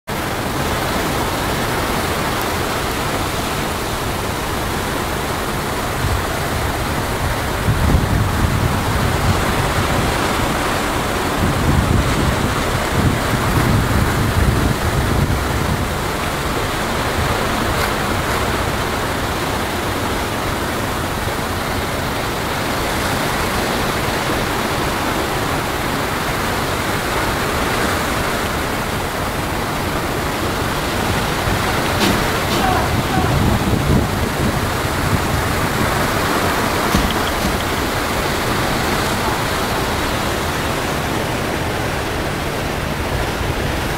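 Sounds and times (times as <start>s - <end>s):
churning sea water and waves: 0.0s - 43.9s.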